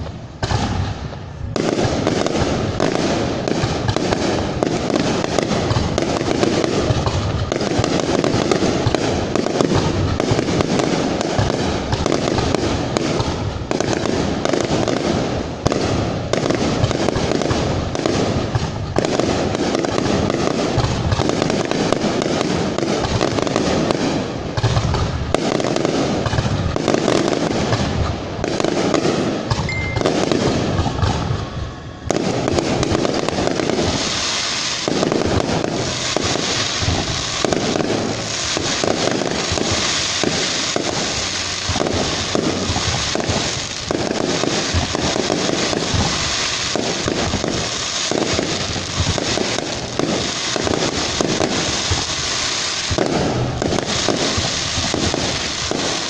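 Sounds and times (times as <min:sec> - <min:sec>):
firework crackles: 0:00.0 - 0:56.0
fireworks bursting: 0:00.0 - 0:56.0.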